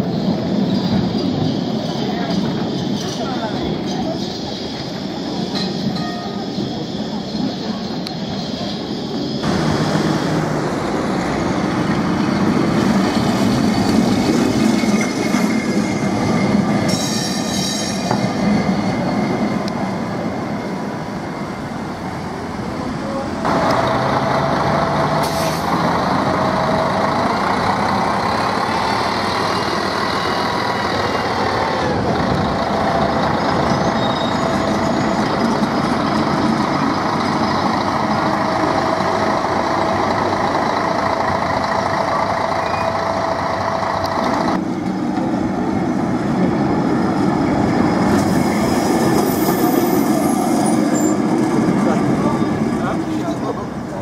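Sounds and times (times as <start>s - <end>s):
city traffic: 0.0s - 54.0s
electric trams running on track: 0.0s - 54.0s.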